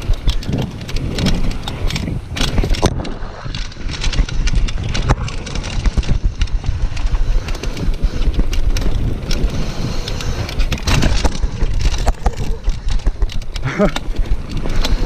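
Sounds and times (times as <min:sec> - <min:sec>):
bike clicks and rattles: 0:00.0 - 0:15.0
tyres rumbling over gravel: 0:00.0 - 0:15.0
wind buffeting microphone: 0:00.0 - 0:15.0.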